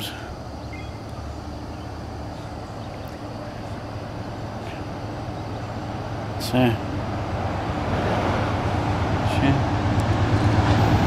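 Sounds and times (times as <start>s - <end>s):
distant passenger train rumble: 0.0s - 11.0s.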